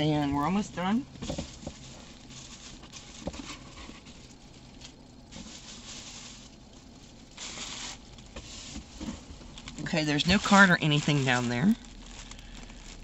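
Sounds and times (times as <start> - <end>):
packaging rustling: 1.2 - 13.0.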